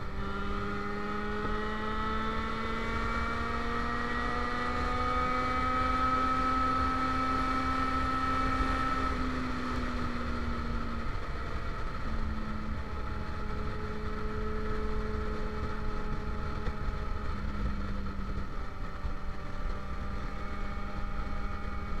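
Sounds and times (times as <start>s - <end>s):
motorcycle engine cruising: 0.0s - 22.0s
wind rumble on microphone: 0.0s - 22.0s.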